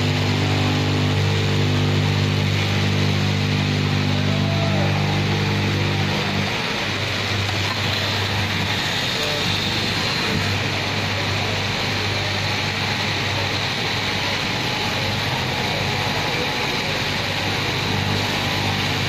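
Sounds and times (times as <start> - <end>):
electric cutting machine humming: 0.0 - 19.0.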